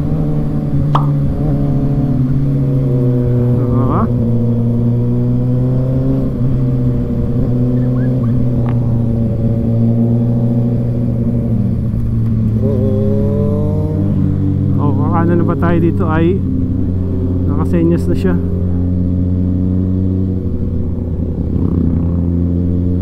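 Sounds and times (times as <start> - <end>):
motorcycle engines cruising: 0.0 - 23.0.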